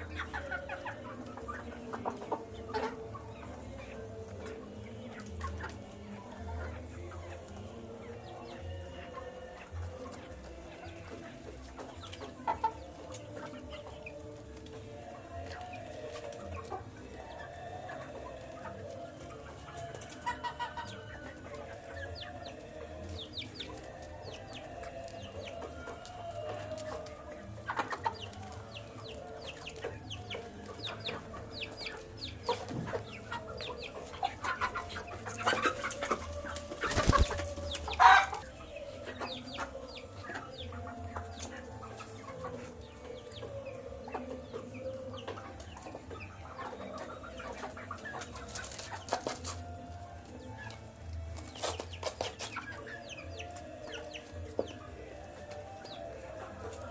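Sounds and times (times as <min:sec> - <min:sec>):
baby chicks peeping: 0:00.0 - 0:56.9.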